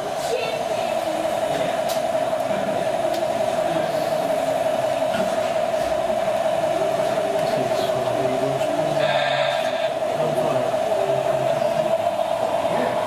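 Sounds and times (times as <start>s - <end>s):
model locomotive whine: 0.0s - 13.0s.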